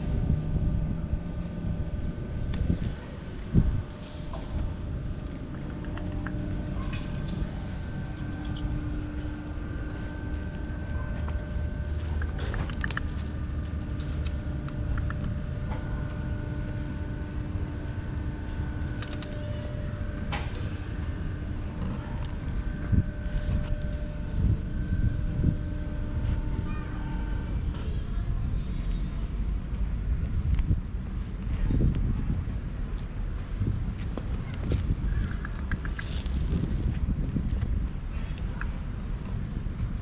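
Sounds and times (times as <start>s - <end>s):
engine running with low rumble: 0.0s - 40.0s.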